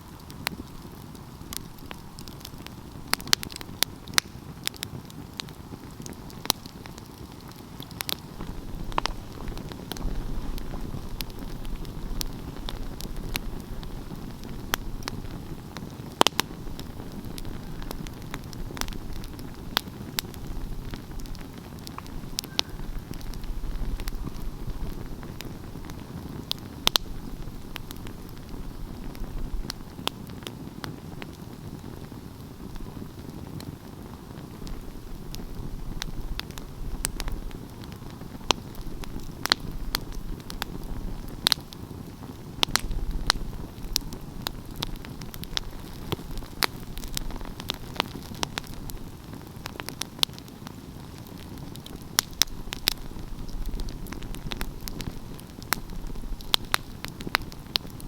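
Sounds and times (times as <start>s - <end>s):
fire crackling and popping: 0.0s - 58.0s
fire rushing flame: 0.0s - 58.0s.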